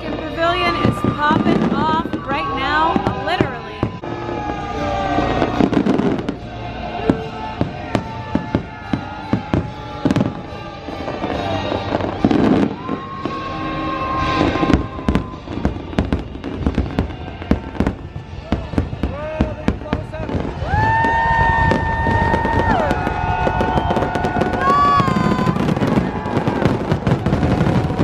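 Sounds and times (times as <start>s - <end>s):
fireworks bangs and pops: 0.0s - 28.0s
music playing: 0.0s - 28.0s.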